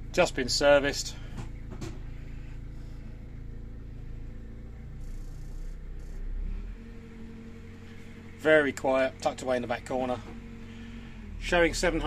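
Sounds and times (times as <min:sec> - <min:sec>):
marine diesel engine idling: 0:00.0 - 0:12.0.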